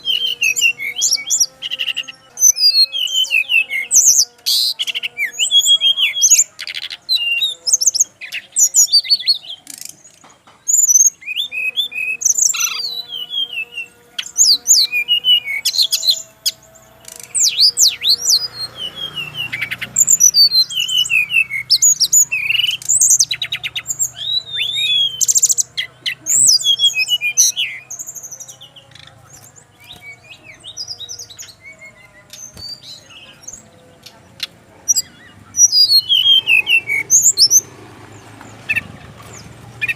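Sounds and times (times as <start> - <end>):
bird whistling and chirping: 0.0 - 37.7.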